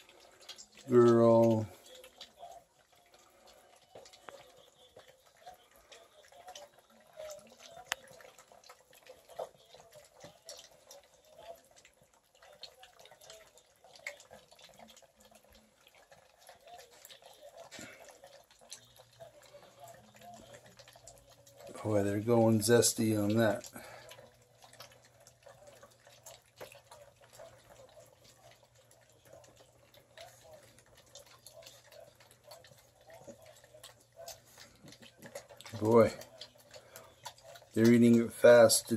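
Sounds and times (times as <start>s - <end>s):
puppies lapping and chewing food: 0.0s - 38.9s.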